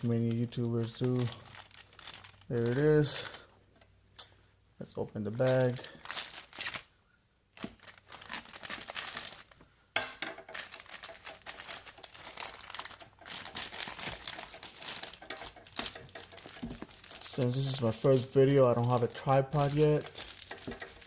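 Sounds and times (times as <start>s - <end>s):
packaging bag crinkling: 0.0s - 3.5s, 5.3s - 6.9s, 7.5s - 9.6s, 10.4s - 21.0s.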